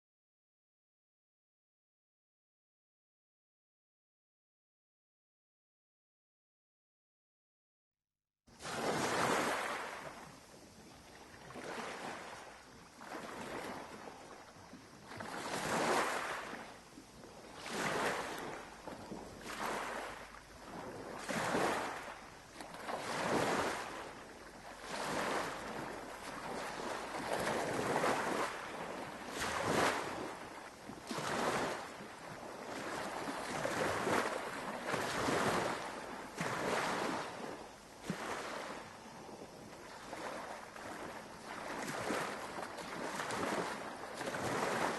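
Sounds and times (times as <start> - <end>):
sea waves washing in: 8.6 - 44.9.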